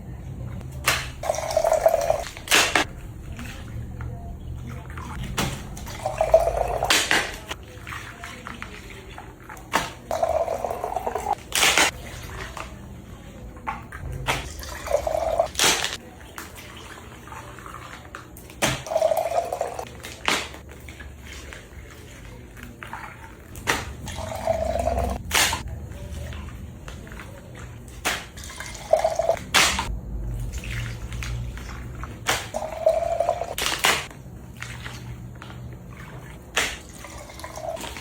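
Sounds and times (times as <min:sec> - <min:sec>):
liquid pouring into container: 0:00.8 - 0:12.8, 0:13.9 - 0:20.1, 0:20.8 - 0:25.3, 0:25.9 - 0:29.4, 0:30.2 - 0:38.0.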